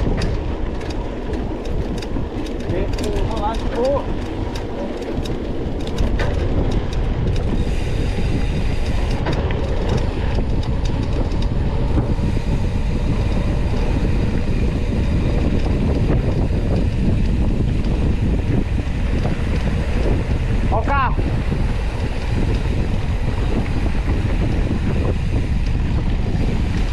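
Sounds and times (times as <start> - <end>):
bike rattling clicks and knocks: 0.0 - 26.9
bike rolling and wind rumble: 0.0 - 26.9.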